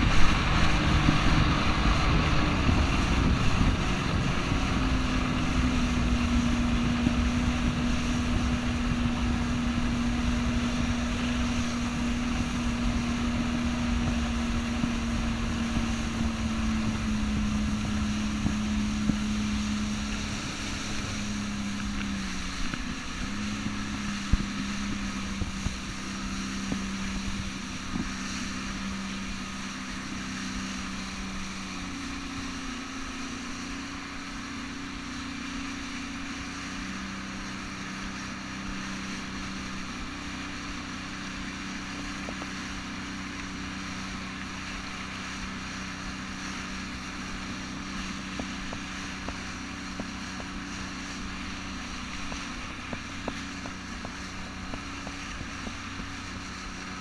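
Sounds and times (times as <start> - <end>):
jet ski engine running: 0.0 - 57.0
spray and wind on microphone: 0.0 - 57.0.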